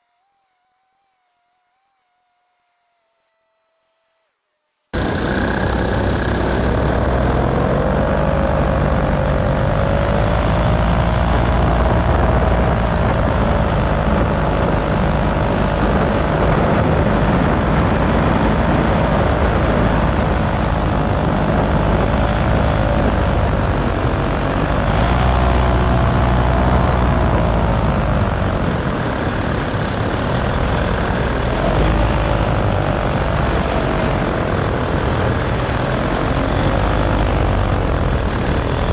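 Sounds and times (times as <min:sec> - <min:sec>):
paramotor engine and propeller: 0:05.0 - 0:38.9.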